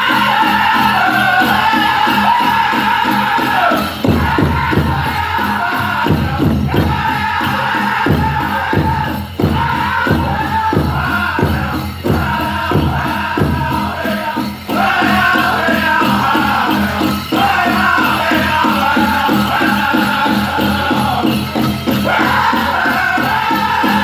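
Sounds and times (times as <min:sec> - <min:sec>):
large drum steady fast beat: 0:00.0 - 0:24.0
voices in high-pitched chant: 0:00.0 - 0:24.0.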